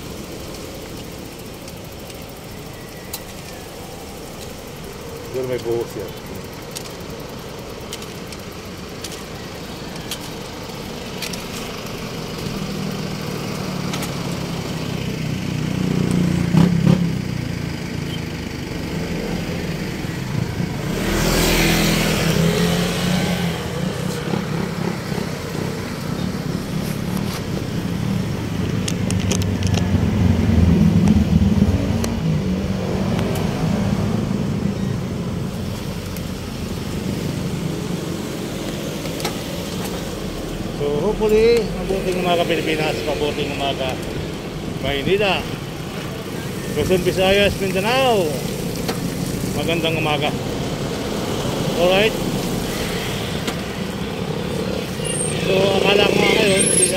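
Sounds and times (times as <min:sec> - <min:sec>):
vehicles passing close by: 0:00.0 - 0:56.9.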